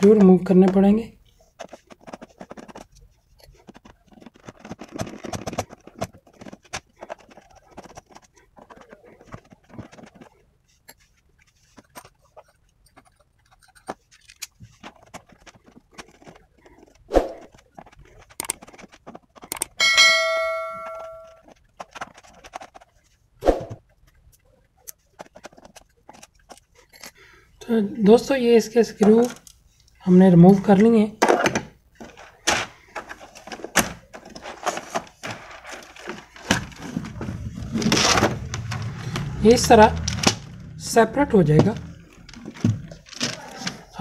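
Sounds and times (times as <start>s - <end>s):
keyboard and tools clicking: 1.6s - 19.9s, 20.8s - 23.2s, 23.9s - 27.2s, 31.3s - 44.0s.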